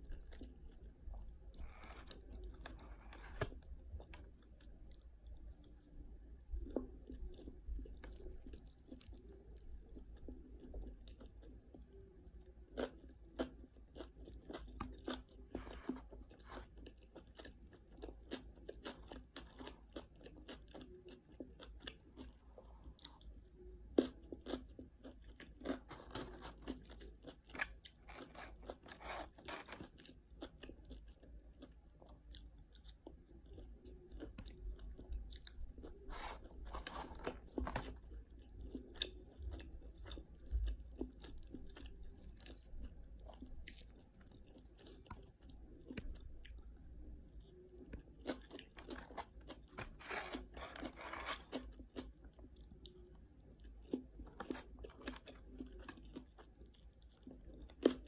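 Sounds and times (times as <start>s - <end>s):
person crunching crunchy food: 0.1s - 5.7s, 12.7s - 23.3s, 24.0s - 46.8s, 47.5s - 58.0s.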